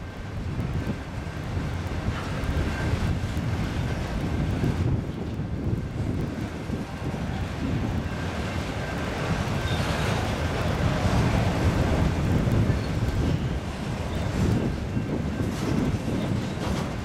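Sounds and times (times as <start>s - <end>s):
train wheels rumbling on rail: 0.0s - 17.0s
wind buffeting microphone: 0.0s - 17.0s.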